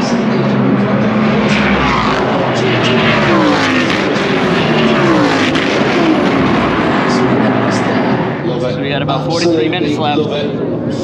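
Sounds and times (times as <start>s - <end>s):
race cars passing: 0.0s - 11.0s.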